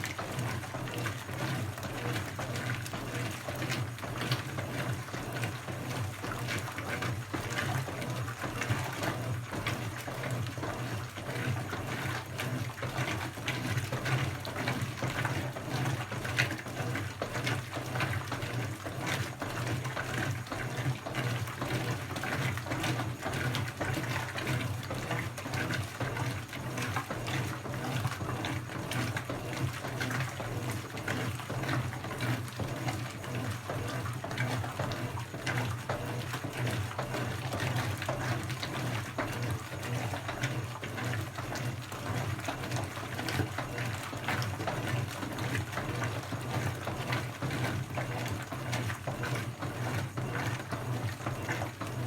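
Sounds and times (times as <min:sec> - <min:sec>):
washing machine hum: 0:00.0 - 0:52.0
water splashing in washing machine: 0:00.0 - 0:52.0.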